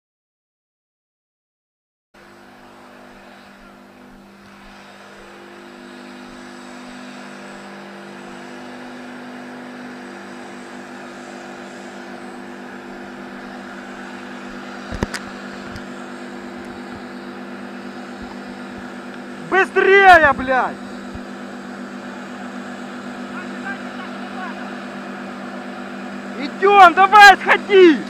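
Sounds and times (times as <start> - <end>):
engine drone: 2.2 - 28.0.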